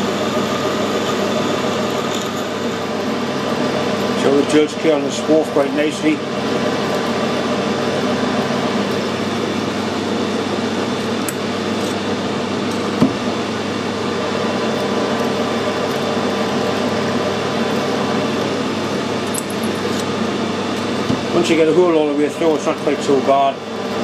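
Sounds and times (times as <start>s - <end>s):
metal lathe drilling metal: 0.0s - 24.0s.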